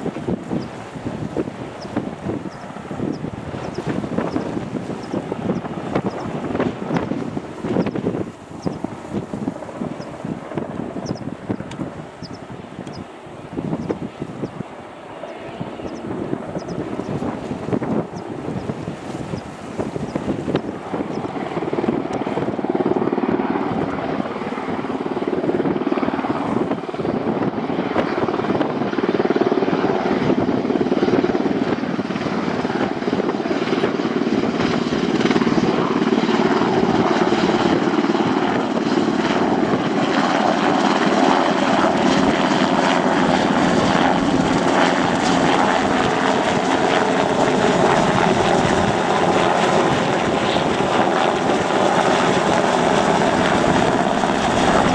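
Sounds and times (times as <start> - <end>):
helicopter flying overhead: 0.0 - 54.9.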